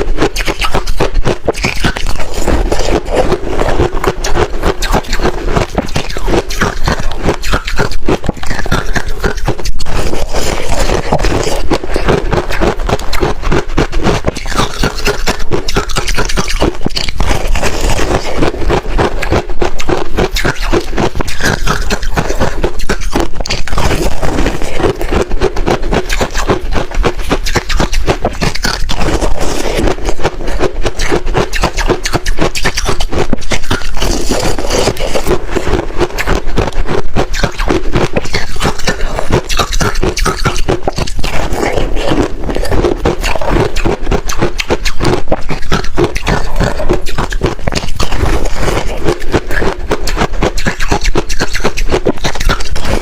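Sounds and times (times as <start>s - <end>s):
frost crunching and scraping: 0.0s - 53.0s.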